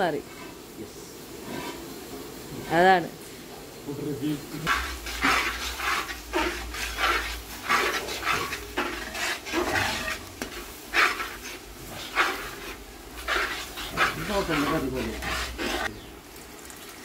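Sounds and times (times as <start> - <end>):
spatula scraping pan: 0.0 - 0.7, 1.4 - 2.9, 4.4 - 16.0
sizzling: 0.0 - 17.0.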